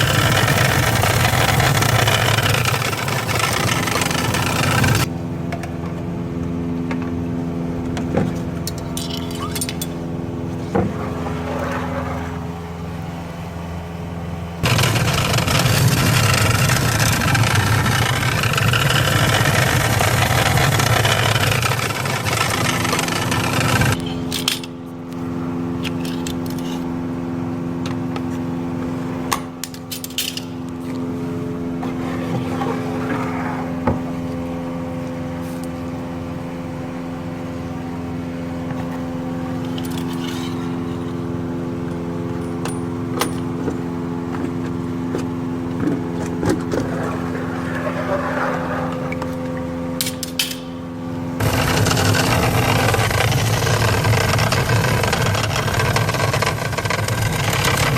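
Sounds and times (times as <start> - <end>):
machine hum: 0.0 - 57.9.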